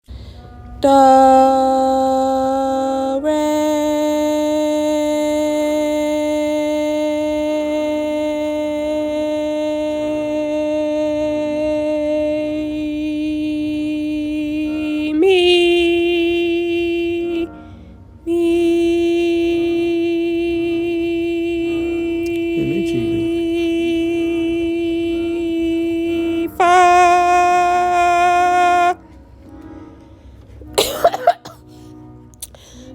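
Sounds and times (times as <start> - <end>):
person singing a long note: 0.8 - 17.5, 18.2 - 29.0.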